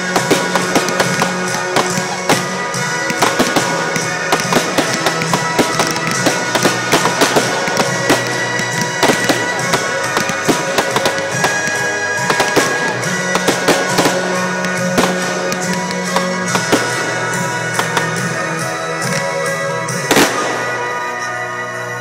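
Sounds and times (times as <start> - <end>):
fireworks bangs and crackles: 0.0 - 22.0
music with long held tones: 0.0 - 22.0.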